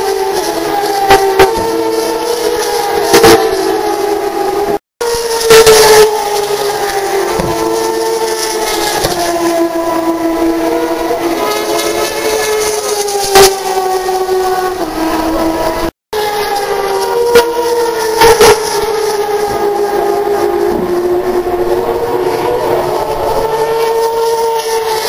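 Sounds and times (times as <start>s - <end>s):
race car engines at high revs: 0.0s - 25.0s
race car passing close: 0.0s - 25.0s.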